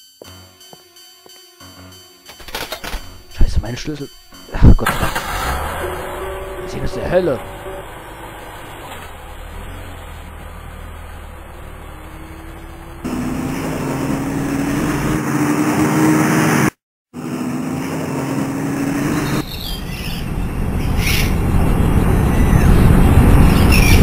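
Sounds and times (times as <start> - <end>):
car engine pulling away: 2.7 - 24.0.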